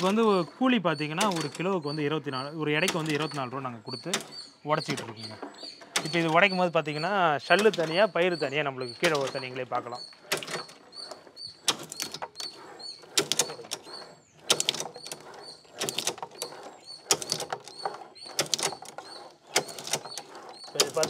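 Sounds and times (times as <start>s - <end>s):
cutting machine clicks and knocks: 0.0s - 21.0s.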